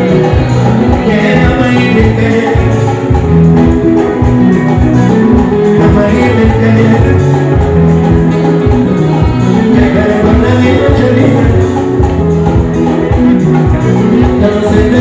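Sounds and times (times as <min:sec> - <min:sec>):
live band music: 0:00.0 - 0:15.0
plucked electric guitar: 0:00.0 - 0:15.0
steady drum beat: 0:00.0 - 0:15.0.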